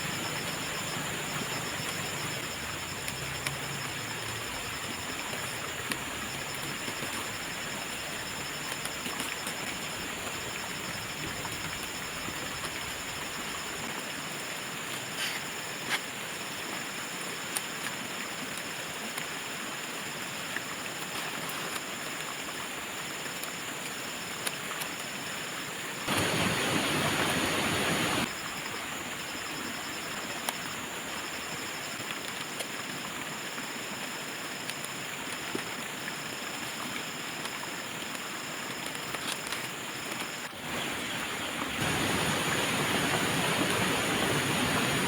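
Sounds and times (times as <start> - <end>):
high insect trill: 0.0 - 17.8, 22.8 - 45.0.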